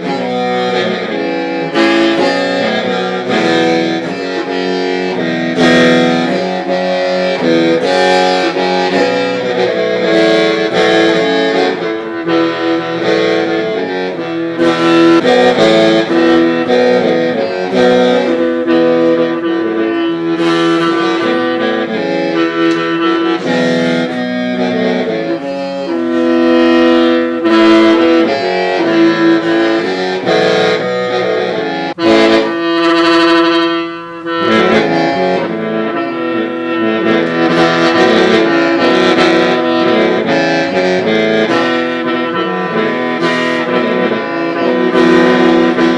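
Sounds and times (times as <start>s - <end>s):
bamboo mouth organ melody: 0.0s - 45.9s.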